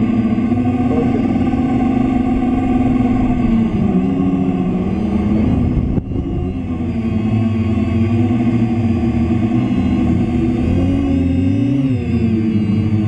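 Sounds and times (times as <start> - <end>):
car engine revving hard: 0.0 - 12.8.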